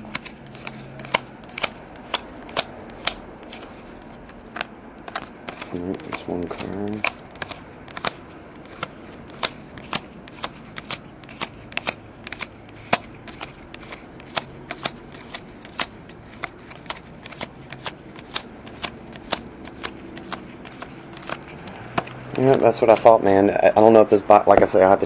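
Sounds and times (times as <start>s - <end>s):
trading cards snapping: 0.0s - 23.3s.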